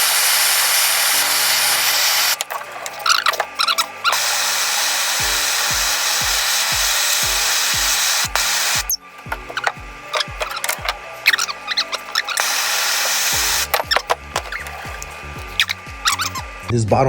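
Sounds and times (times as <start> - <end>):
torch flame hissing: 0.0 - 16.7.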